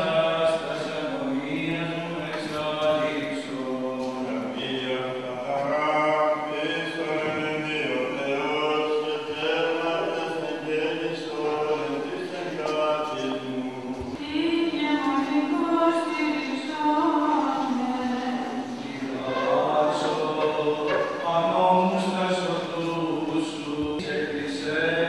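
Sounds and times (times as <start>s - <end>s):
men singing a chant: 0.0s - 14.0s, 18.6s - 25.0s.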